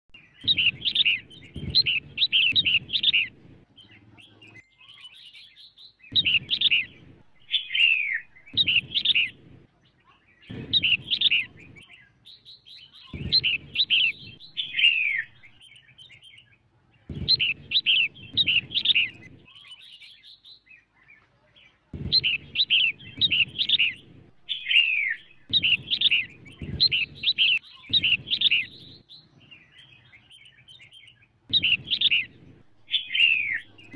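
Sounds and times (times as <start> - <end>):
bird warbling chirps: 0.2 - 9.4, 10.5 - 16.5, 17.1 - 20.4, 22.0 - 33.9.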